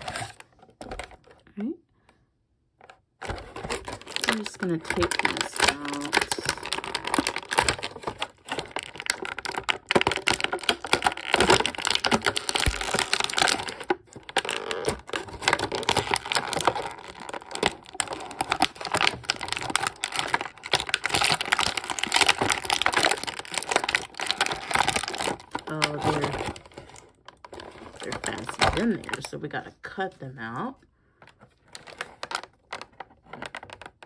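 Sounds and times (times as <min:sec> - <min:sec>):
plastic packaging crackling: 0:00.0 - 0:01.4, 0:03.2 - 0:29.7, 0:31.2 - 0:34.0.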